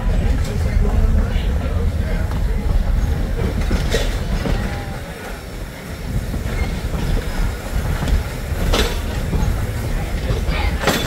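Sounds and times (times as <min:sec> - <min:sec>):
train rumbling on rails: 0:00.0 - 0:11.0
wheels clacking: 0:00.0 - 0:11.0.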